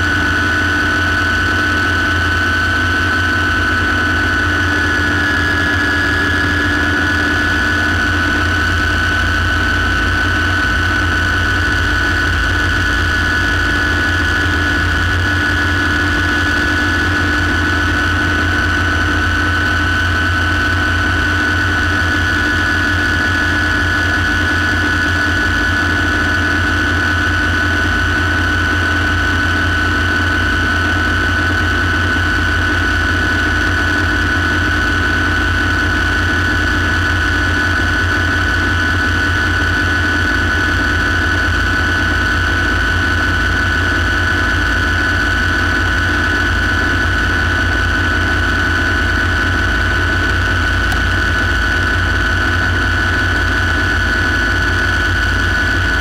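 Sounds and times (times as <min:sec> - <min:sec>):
helicopter turbine whine: 0:00.0 - 0:56.0
low helicopter rumble: 0:00.0 - 0:56.0.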